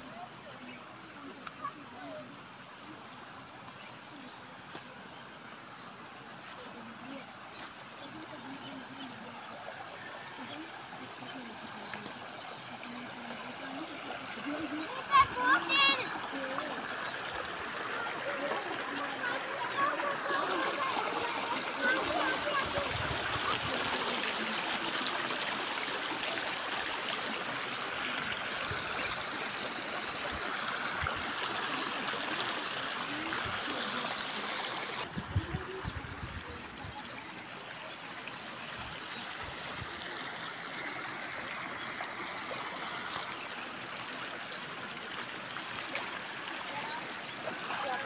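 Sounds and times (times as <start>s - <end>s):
stream rippling over stones: 0.0s - 48.0s.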